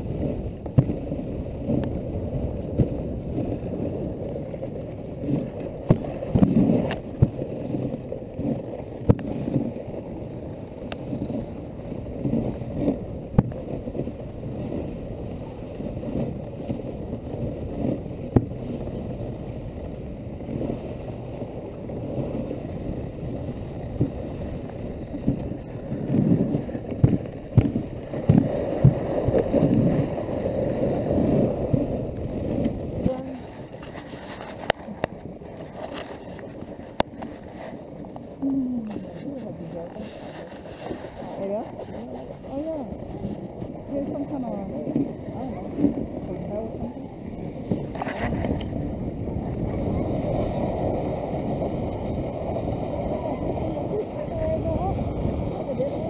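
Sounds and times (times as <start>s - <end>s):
sled knocking and rattling: 0.0s - 56.0s
sled runners scraping on snow: 0.0s - 56.0s.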